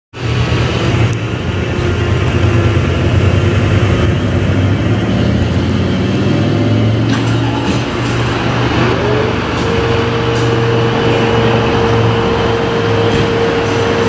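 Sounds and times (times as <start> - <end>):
diesel engine idling: 0.2 - 14.0.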